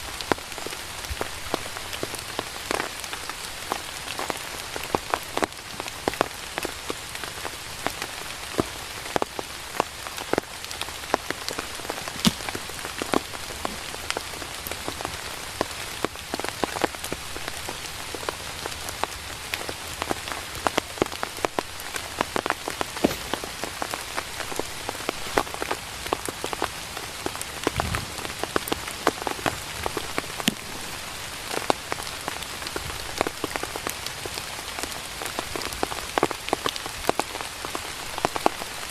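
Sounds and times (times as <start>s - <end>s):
heavy raindrops striking: 0.0s - 38.9s
rain falling: 0.0s - 38.9s.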